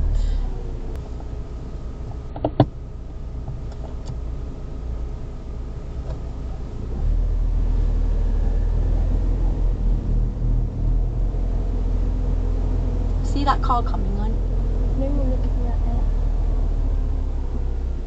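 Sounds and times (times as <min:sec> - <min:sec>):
car engine rumble: 0:00.0 - 0:18.0.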